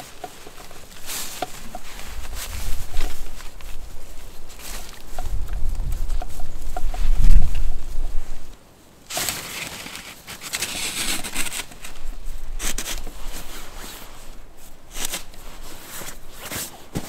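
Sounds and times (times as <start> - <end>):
nylon tarp rustling and scraping: 0.0 - 17.0.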